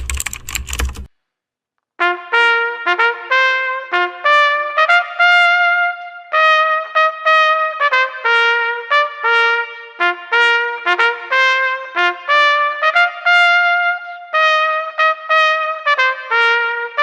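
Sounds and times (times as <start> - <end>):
brass melody music: 2.0 - 17.0.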